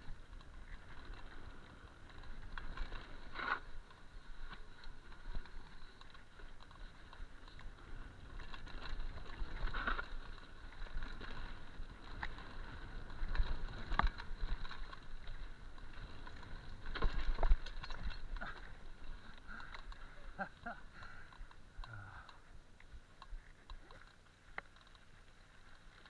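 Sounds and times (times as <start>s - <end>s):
bike rattling over bumps: 0.0s - 22.3s.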